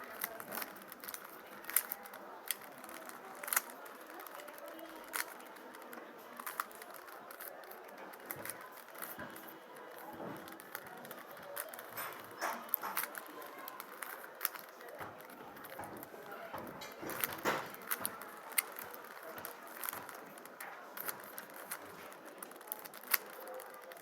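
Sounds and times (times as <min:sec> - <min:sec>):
puzzle cube layers clicking: 0:00.1 - 0:16.2, 0:16.9 - 0:24.0.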